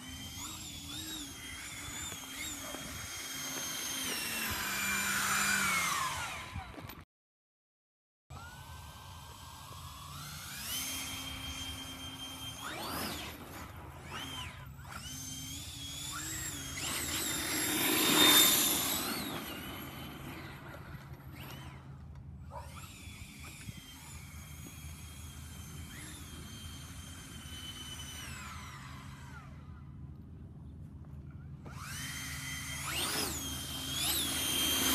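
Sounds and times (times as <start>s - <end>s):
electric ducted fan whine: 0.0s - 6.9s, 8.4s - 34.9s.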